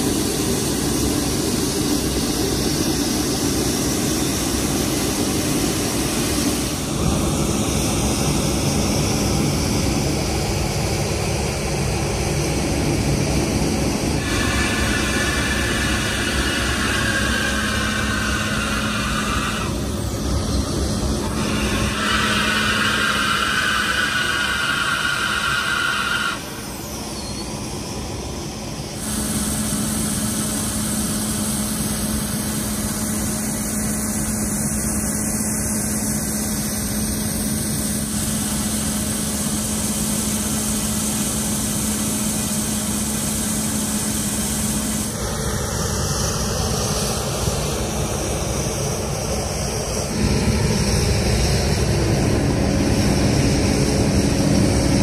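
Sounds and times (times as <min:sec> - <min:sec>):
machinery drone with low hum: 0:00.0 - 0:55.0
vacuum blower whining: 0:00.0 - 0:55.0.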